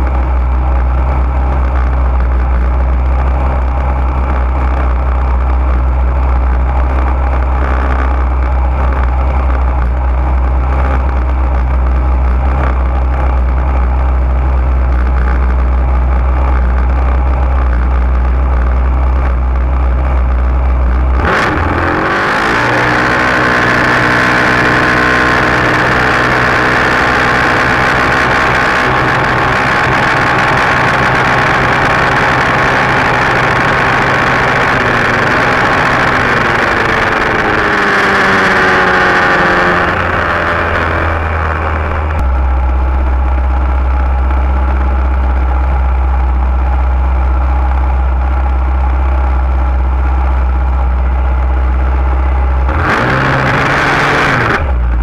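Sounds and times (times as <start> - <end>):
single-cylinder racing engine: 0.0 - 55.0.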